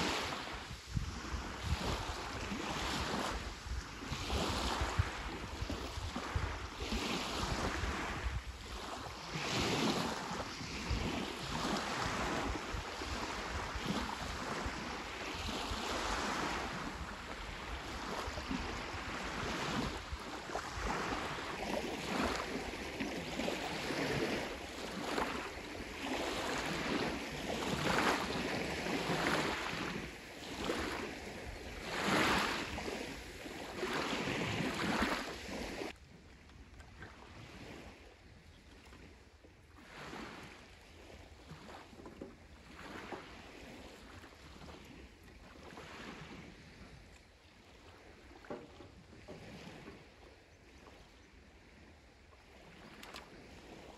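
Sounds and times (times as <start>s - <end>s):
small waves washing up shelly beach: 0.0s - 53.9s
wind rumbling on microphone: 0.0s - 53.9s.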